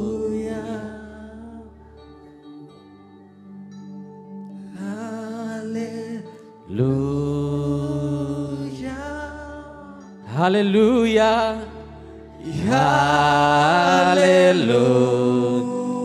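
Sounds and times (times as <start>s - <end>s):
man singing into a microphone: 0.0s - 1.7s, 4.7s - 16.0s
keyboard playing worship chords: 0.0s - 16.0s.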